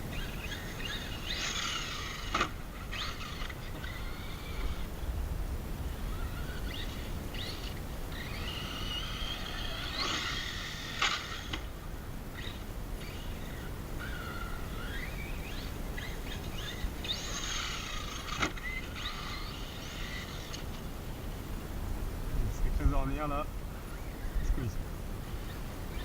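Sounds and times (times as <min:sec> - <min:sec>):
rc truck motor whine: 0:00.0 - 0:22.0, 0:22.8 - 0:26.0.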